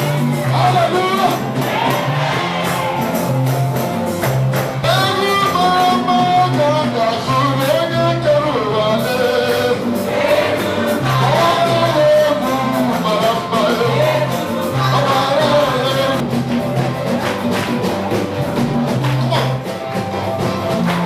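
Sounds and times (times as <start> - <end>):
upbeat gospel music with singers: 0.0 - 21.0.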